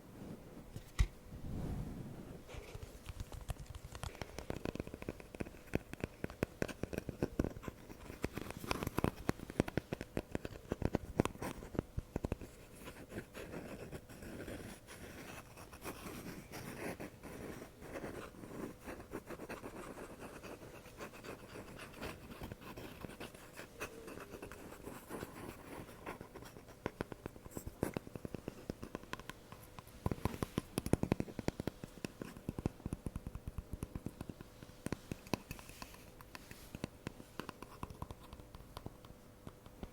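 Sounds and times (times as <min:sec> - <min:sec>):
scratching and tapping on microphone: 0:02.6 - 0:39.9.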